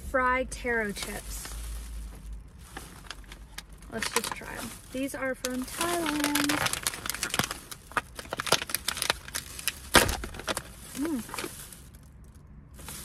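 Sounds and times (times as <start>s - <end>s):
plastic snack bag crinkling: 0.8s - 13.0s.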